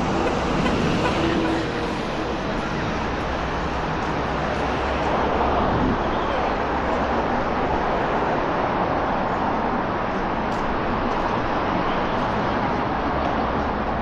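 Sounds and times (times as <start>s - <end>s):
busy street traffic: 0.0s - 14.0s.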